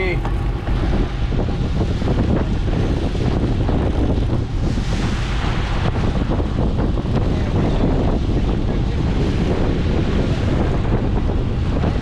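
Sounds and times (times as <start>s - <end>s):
boat wake rushing: 0.0s - 12.0s
wind buffeting microphone: 0.0s - 12.0s.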